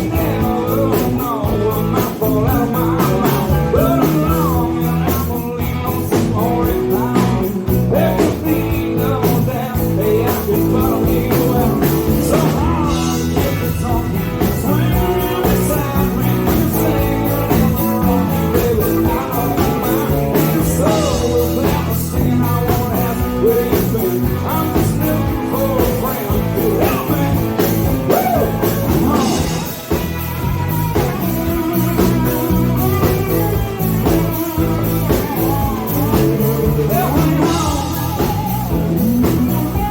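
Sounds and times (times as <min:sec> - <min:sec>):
rock band playing live: 0:00.0 - 0:39.9
steady drum beat: 0:00.0 - 0:39.9.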